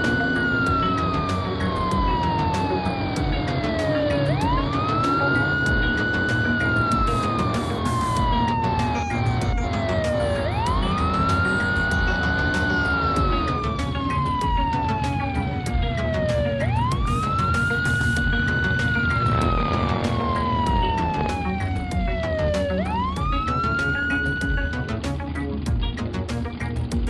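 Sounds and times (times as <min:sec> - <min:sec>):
wailing emergency siren: 0:00.0 - 0:25.0
background music with beat: 0:00.0 - 0:27.0.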